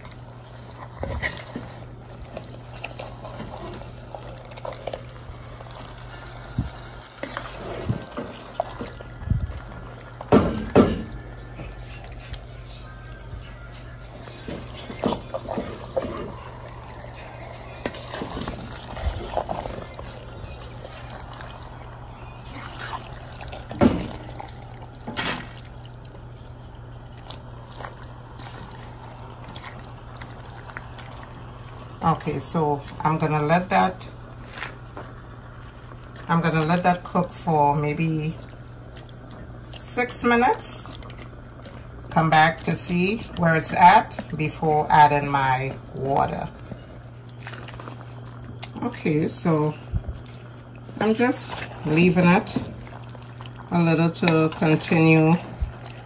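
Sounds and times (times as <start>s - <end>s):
low steady hum: 0.0s - 56.0s
sauce bubbling and crackling: 0.0s - 56.0s
wooden spoon stirring: 0.0s - 56.0s.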